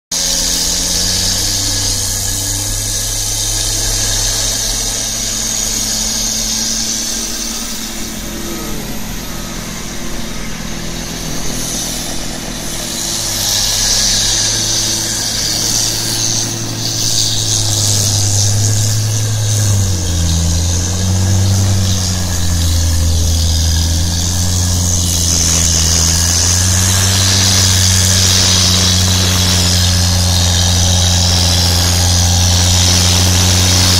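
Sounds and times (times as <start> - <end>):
high hiss: 0.1 - 33.9
snowblower engine running: 0.1 - 33.9.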